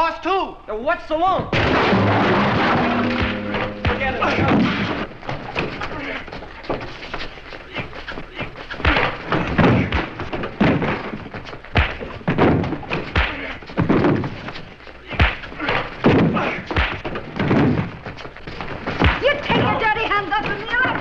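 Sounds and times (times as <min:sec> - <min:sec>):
punches and body thuds: 0:01.6 - 0:21.0
scuffling: 0:02.0 - 0:21.0
people grunting: 0:02.1 - 0:17.9, 0:18.5 - 0:21.0.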